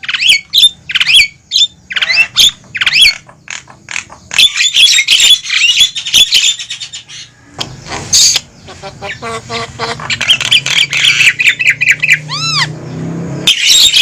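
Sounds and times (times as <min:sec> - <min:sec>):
mynas squawking and chattering: 0:00.0 - 0:12.8.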